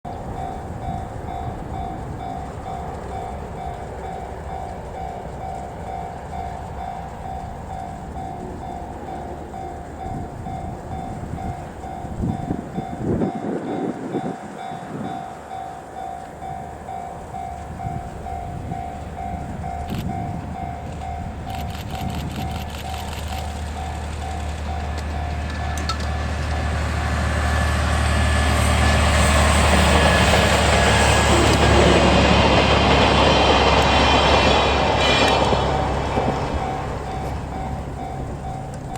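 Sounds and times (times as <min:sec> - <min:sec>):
train rumble: 0:00.0 - 0:38.9
locomotive engine drone: 0:00.1 - 0:38.9
level crossing alarm ringing: 0:00.2 - 0:32.7, 0:33.4 - 0:38.9.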